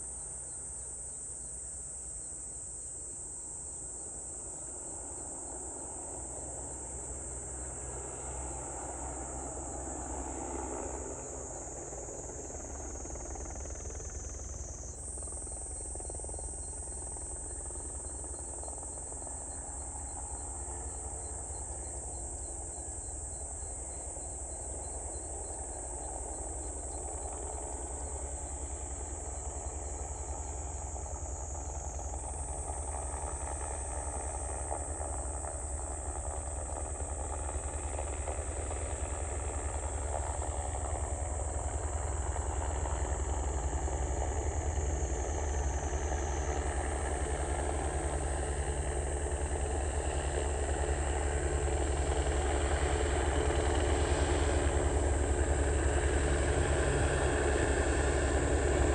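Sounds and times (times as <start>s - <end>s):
helicopter rotor beating: 9.9s - 23.4s, 24.6s - 58.9s.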